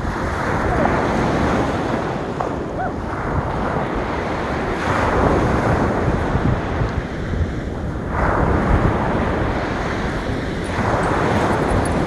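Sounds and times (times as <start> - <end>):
surf breaking on beach: 0.0 - 11.4
wind buffeting microphone: 0.0 - 12.0.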